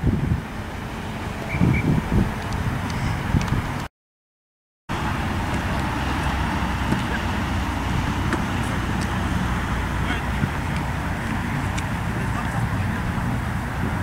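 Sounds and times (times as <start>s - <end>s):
distant road traffic: 0.0s - 3.9s, 4.9s - 14.0s
wind on the microphone: 0.0s - 3.9s, 5.0s - 14.0s.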